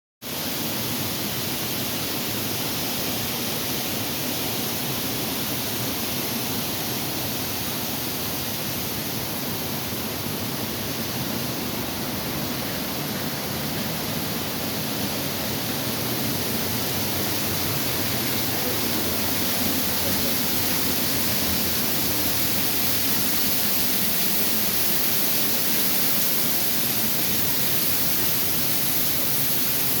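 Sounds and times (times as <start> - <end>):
waterfall rushing: 0.5 - 30.0.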